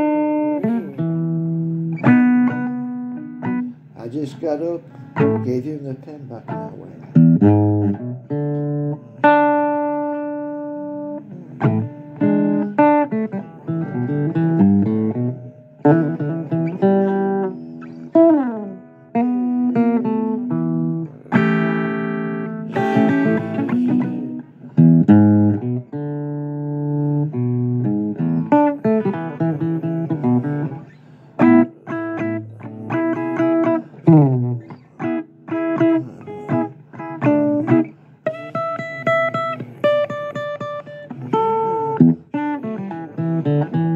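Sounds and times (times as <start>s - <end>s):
blues guitar with sliding notes: 0.0s - 43.9s.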